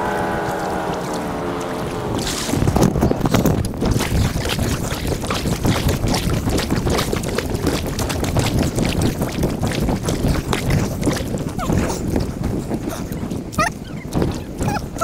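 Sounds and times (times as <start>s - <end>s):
paddle strokes in water: 0.0s - 15.0s.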